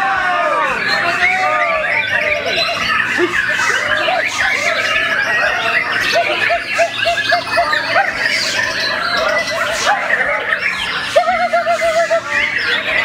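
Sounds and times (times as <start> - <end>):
other songbirds singing: 0.0 - 13.0.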